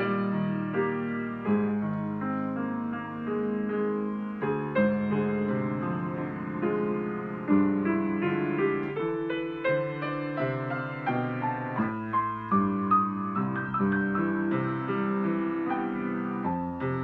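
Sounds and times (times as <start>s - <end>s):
solo grand piano piece: 0.0s - 17.0s.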